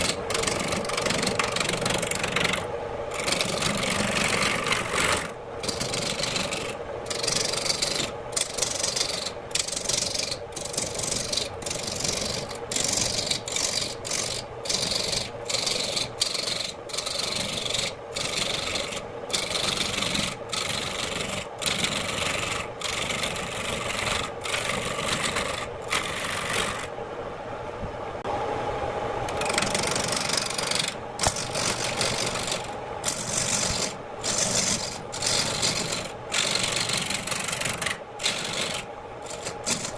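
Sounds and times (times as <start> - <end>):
turning tool scraping wood: 0.0 - 26.9, 29.3 - 39.9
wood lathe running: 0.0 - 26.9, 29.3 - 39.9.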